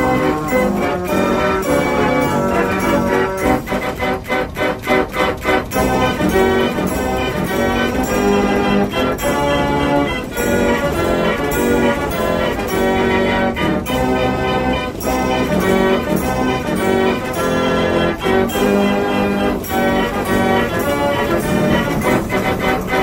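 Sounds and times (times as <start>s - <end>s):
music with brass and bell tones: 0.0s - 23.0s.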